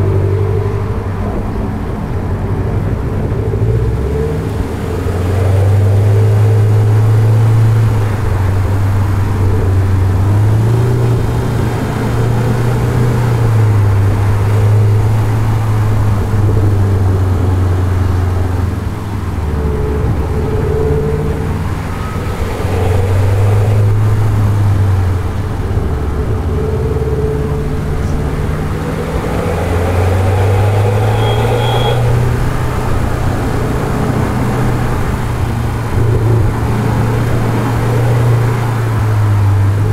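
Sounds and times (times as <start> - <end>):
car engine burbling under load: 0.0 - 39.9.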